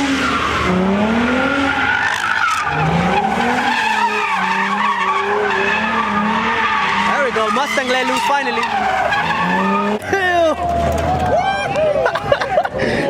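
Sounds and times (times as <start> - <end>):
car engine revving: 0.0 - 11.3
tyres squealing: 0.2 - 11.4.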